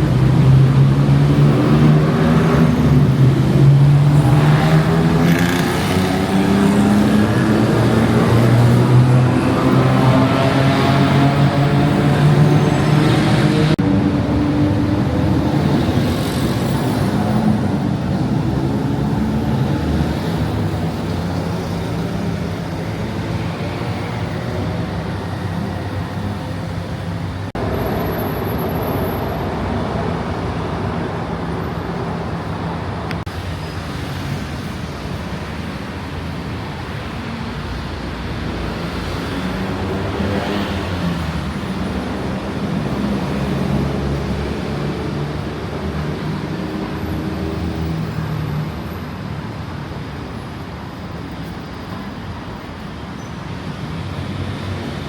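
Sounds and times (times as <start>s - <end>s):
car traffic passing: 0.0s - 55.0s.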